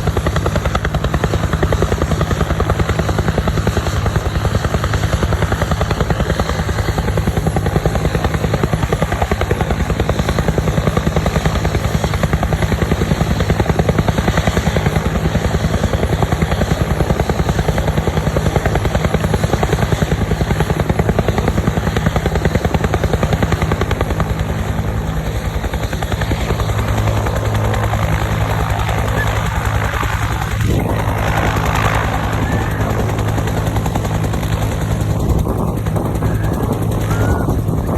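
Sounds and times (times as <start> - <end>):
helicopter rotor beating: 0.0 - 37.9.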